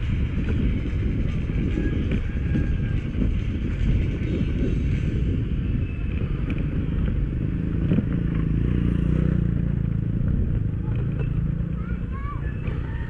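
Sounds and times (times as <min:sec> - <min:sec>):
motorcycle engine at low speed: 0:00.0 - 0:13.0.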